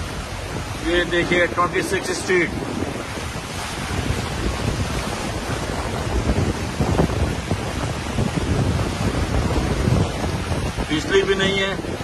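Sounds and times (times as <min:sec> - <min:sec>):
floodwater rushing: 0:00.0 - 0:12.0
wind buffeting microphone: 0:00.0 - 0:12.0.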